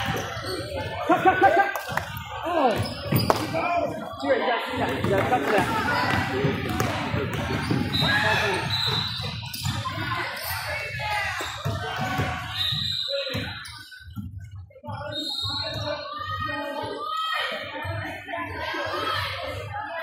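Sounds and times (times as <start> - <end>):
voices echoing in gym: 0.0 - 20.0.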